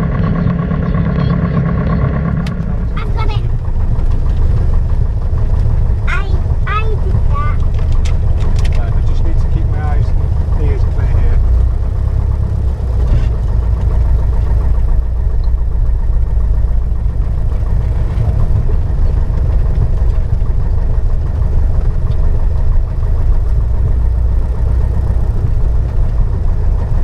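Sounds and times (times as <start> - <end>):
aircraft engine and propeller drone: 0.0 - 27.0.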